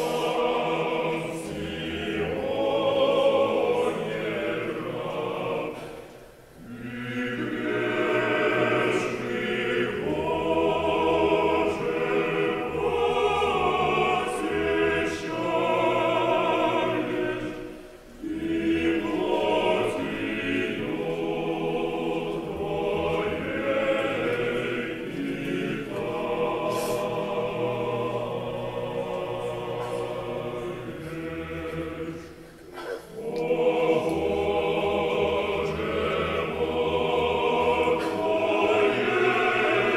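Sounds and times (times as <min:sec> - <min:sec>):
church choir singing chant: 0:00.0 - 0:39.9.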